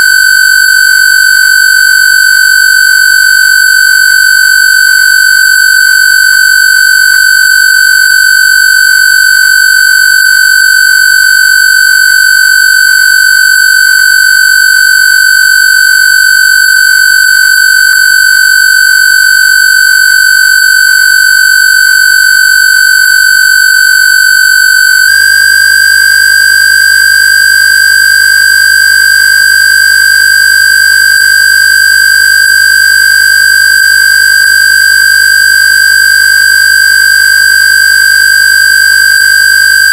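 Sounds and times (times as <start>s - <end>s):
buzzy electronic square-wave tone: 0.0s - 39.9s.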